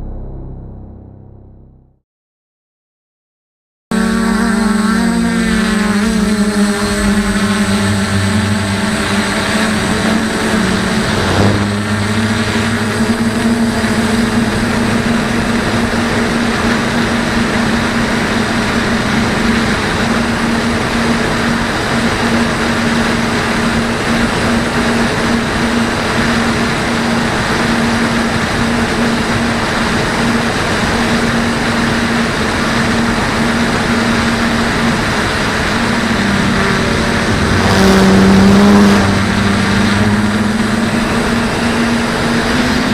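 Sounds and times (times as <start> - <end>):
drone motors humming: 0.0 - 1.8, 3.9 - 42.9.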